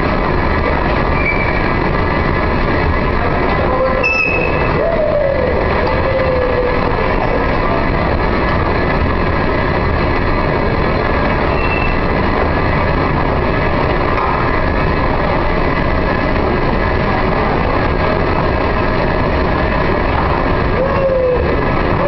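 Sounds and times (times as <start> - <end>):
escalator rumble and hiss: 0.0 - 22.0.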